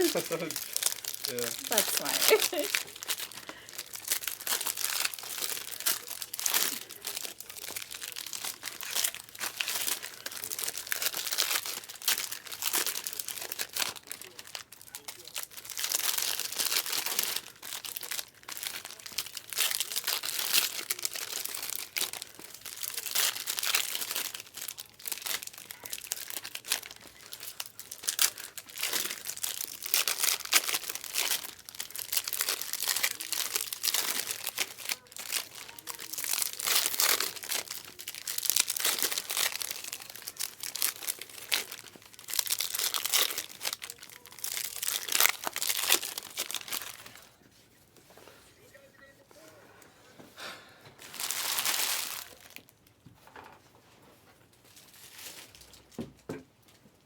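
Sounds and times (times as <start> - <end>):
wrappers crinkling and tearing: 0.0 - 47.4, 51.0 - 53.0, 54.4 - 56.1.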